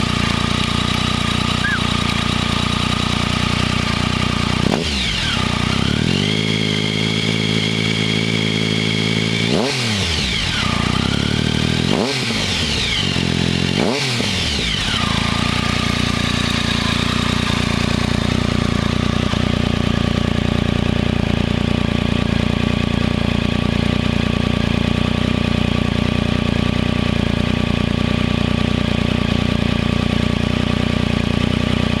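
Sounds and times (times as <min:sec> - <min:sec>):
motorcycle engine revving and idling: 0:00.0 - 0:32.0.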